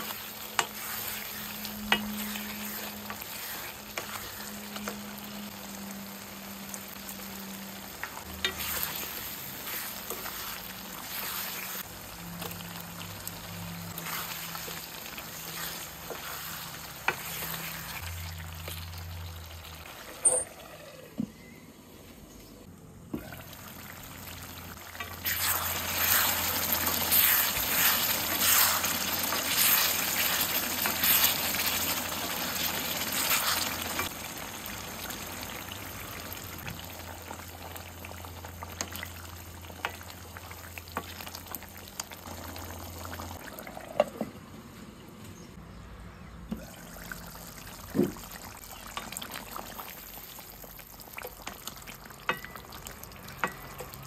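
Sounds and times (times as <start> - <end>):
curry sizzling: 0.0 - 21.0, 23.2 - 44.0, 46.6 - 54.0.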